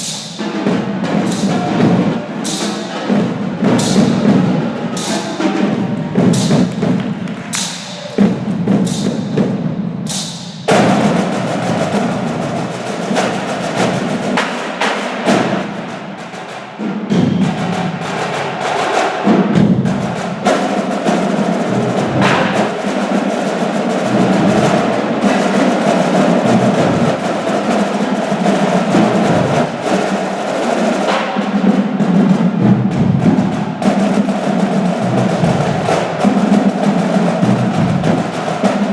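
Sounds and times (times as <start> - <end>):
percussion ensemble drumming: 0.0 - 38.9.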